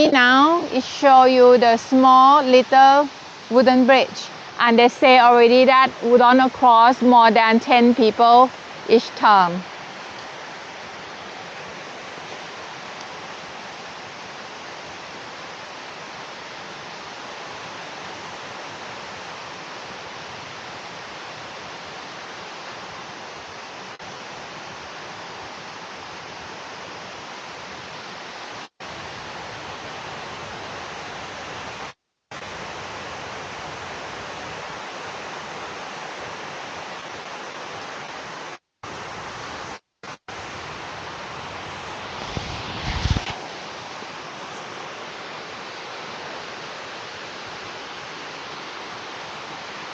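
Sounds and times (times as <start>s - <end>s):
waterfall cascading water: 0.0s - 49.9s.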